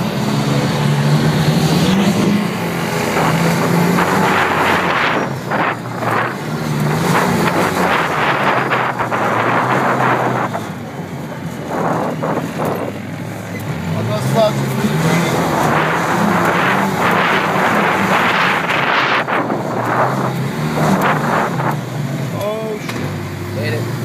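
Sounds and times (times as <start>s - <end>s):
rushing noise: 0.0s - 22.7s
off-road vehicle engine revving: 0.0s - 24.0s.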